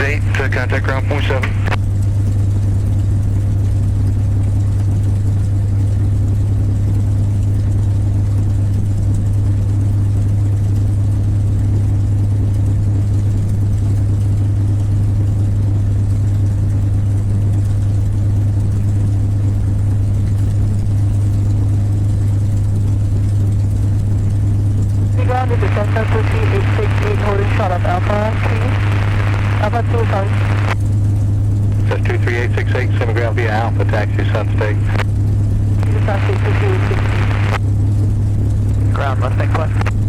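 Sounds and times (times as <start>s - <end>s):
airplane engine idling: 0.0s - 40.0s.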